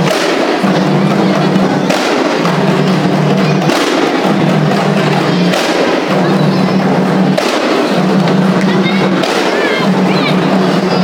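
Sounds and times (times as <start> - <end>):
frame drums playing fast rhythm: 0.0 - 11.0.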